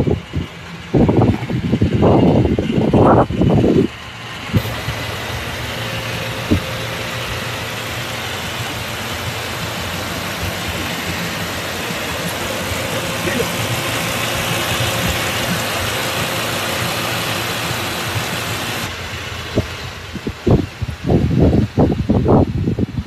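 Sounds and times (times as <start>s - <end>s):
truck engine idling: 0.0s - 23.0s
wind buffeting: 0.0s - 23.0s.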